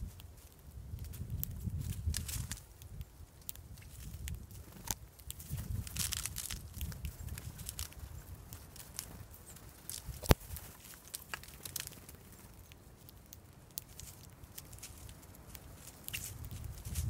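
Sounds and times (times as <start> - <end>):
birds pecking at seed in stone dish: 0.0 - 17.0.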